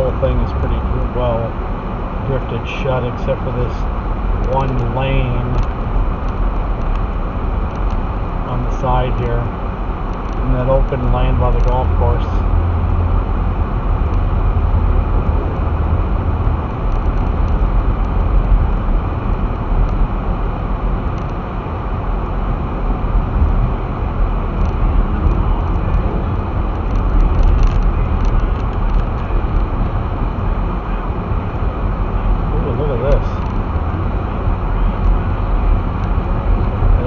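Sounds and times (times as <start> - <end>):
car engine and tyres on snow: 0.0 - 37.0.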